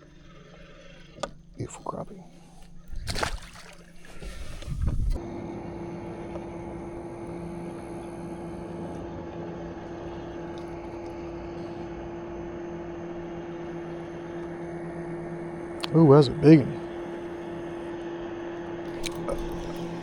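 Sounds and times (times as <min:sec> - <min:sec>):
electric motor hum: 0:00.0 - 0:20.0.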